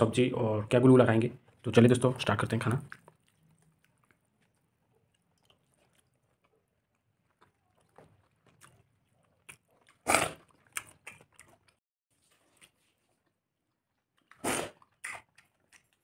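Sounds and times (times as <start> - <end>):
chewing and wet mouth noises: 1.3 - 16.0.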